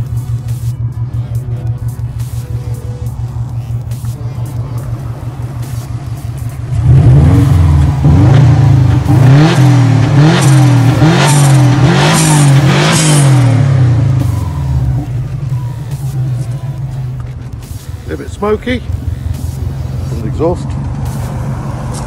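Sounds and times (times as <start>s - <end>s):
car engine idling: 0.0s - 22.0s
car engine revving: 0.0s - 22.0s.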